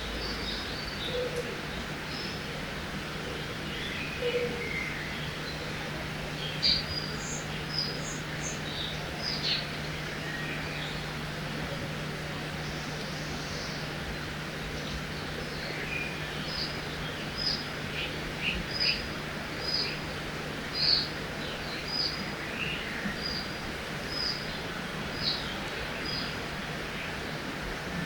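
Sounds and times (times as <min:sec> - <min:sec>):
flowing river water: 0:00.0 - 0:28.0.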